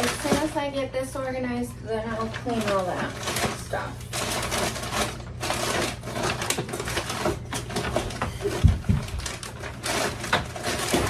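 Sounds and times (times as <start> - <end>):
containers clicking and rustling: 0.0 - 0.6, 2.2 - 11.0.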